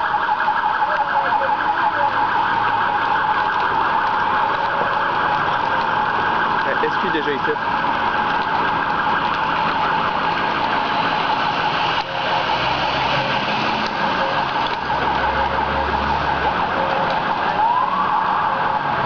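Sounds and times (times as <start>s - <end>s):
loud street noise: 0.0s - 19.0s
police siren: 0.0s - 19.0s.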